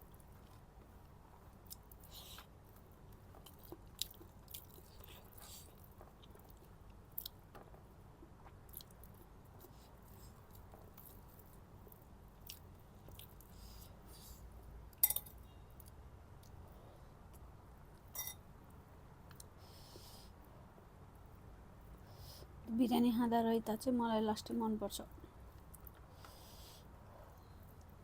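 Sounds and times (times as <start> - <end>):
faint chewing and mouth sounds: 0.0 - 22.6, 25.2 - 28.0.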